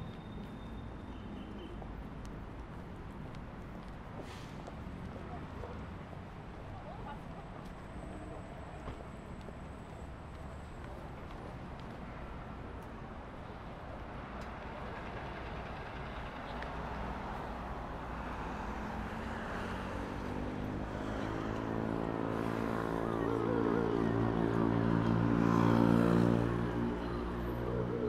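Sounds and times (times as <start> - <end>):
road traffic: 0.0 - 28.0
bus engine hum: 1.6 - 28.0.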